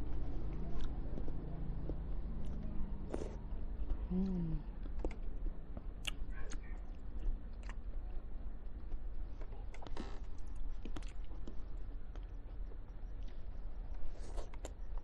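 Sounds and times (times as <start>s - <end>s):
chewing food: 0.1s - 15.0s.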